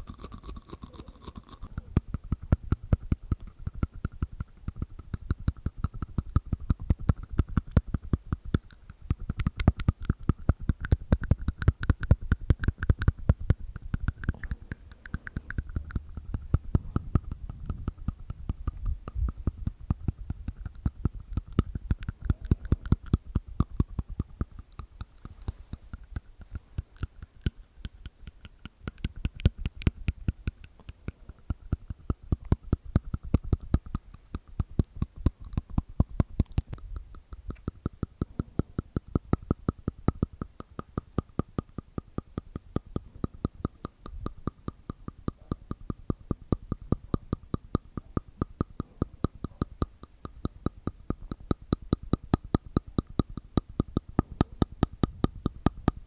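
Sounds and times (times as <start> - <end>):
wet tongue and teeth clicks: 0.0 - 56.0.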